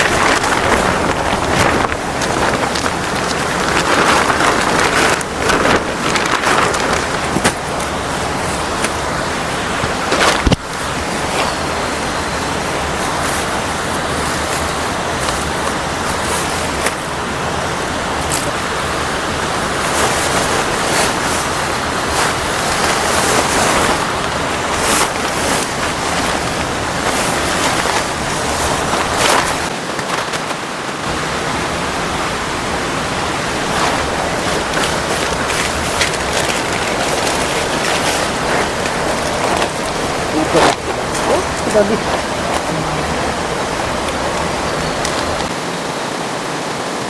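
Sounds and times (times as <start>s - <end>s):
waterfall and river rushing: 0.0s - 47.0s.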